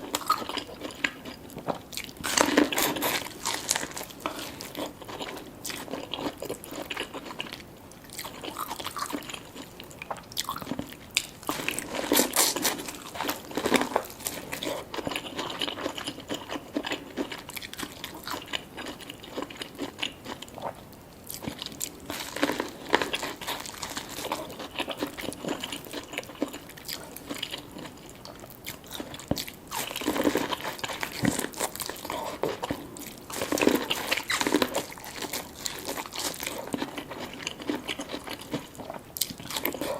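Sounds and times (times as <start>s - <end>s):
person biting and chewing: 0.1s - 7.4s, 8.1s - 20.7s, 21.3s - 39.9s.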